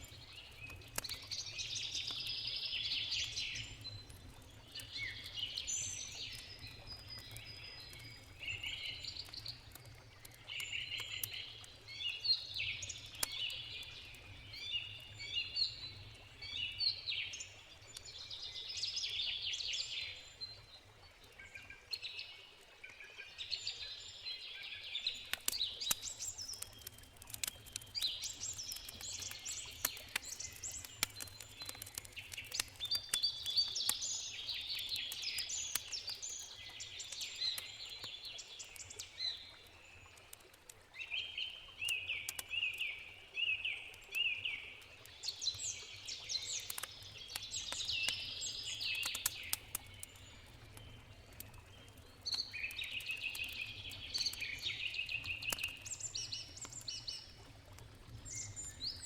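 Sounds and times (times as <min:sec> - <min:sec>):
campfire crackling: 0:00.0 - 0:21.6, 0:25.0 - 0:59.0
songbirds chirping: 0:00.0 - 0:59.0.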